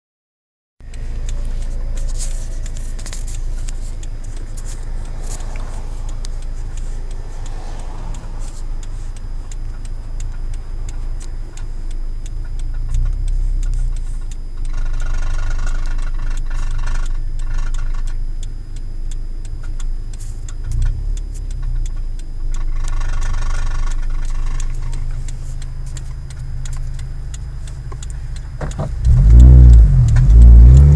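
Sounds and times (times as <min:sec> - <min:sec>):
car engine idling: 0:00.8 - 0:30.9
fine ticking rattle: 0:00.8 - 0:30.9.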